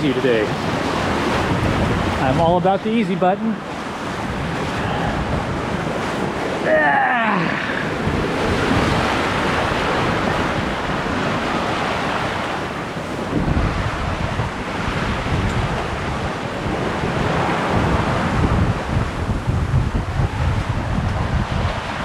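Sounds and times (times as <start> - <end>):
water rushing past hull: 0.0 - 22.0
wind buffeting microphone: 0.0 - 22.0.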